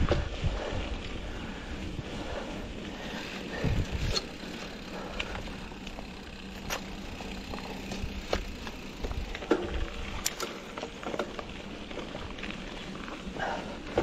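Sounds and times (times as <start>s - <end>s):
bike tyres rolling on gravel: 0.0s - 14.0s.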